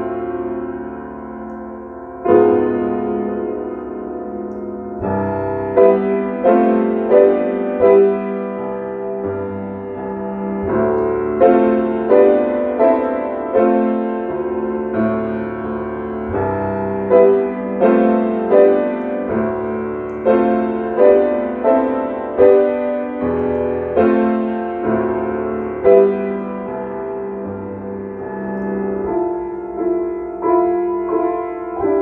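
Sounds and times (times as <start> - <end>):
slow piano piece: 0.0 - 32.0.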